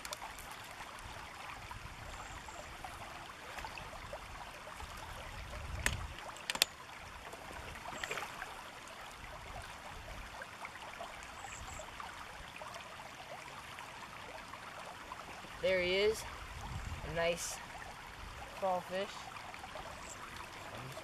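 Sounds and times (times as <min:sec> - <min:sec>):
river running over gravel: 0:00.0 - 0:21.0.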